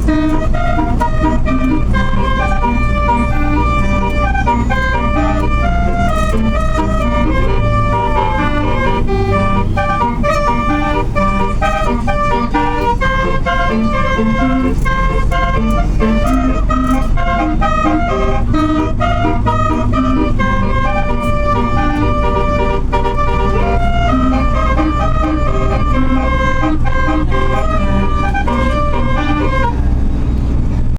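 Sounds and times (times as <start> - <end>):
bus horn playing a tune: 0.0 - 30.9
low engine rumble: 0.0 - 30.9.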